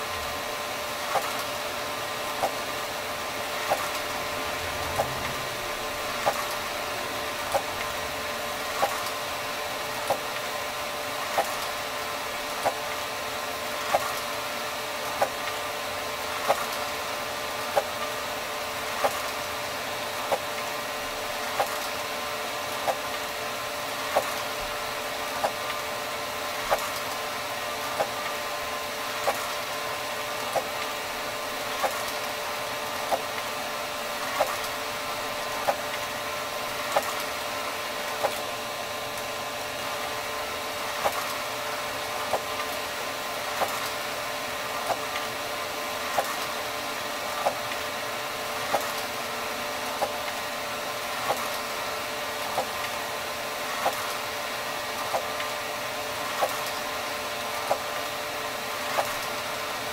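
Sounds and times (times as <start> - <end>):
printer whirring: 0.0 - 59.9.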